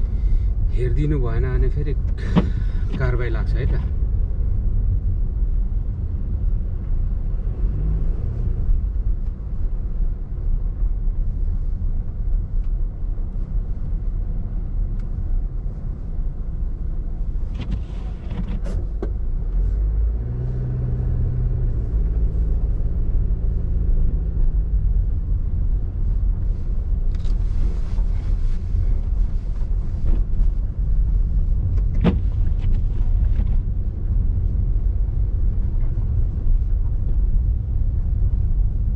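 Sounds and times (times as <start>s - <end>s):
engine hum: 0.0s - 38.9s
tyre and engine rumble: 0.0s - 38.9s.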